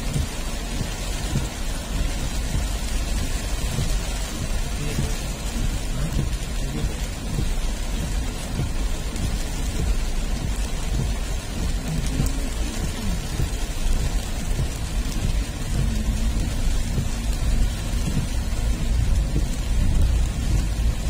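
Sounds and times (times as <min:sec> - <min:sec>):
continuous low rumble: 0:00.0 - 0:21.0
heavy rain on windscreen: 0:00.0 - 0:21.0.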